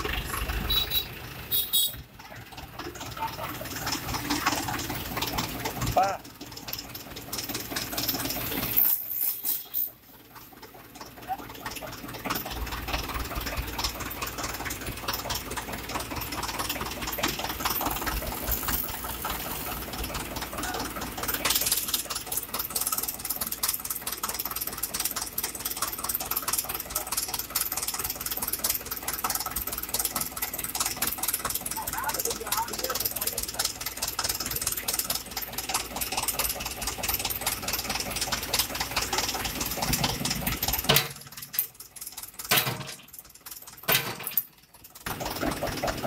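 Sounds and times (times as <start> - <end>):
tractor diesel engine clattering: 0.0 - 46.0.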